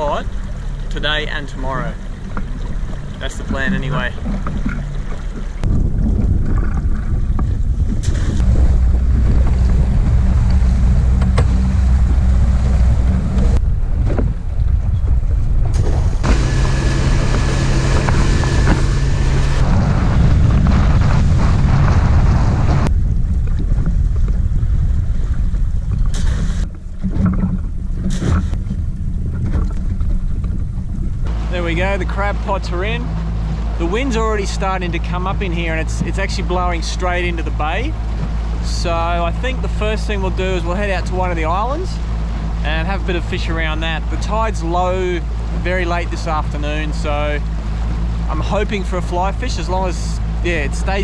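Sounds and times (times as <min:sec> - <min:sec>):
boat engine running: 0:00.0 - 0:51.0
water noise: 0:00.0 - 0:51.0
wind buffeting microphone: 0:00.0 - 0:51.0.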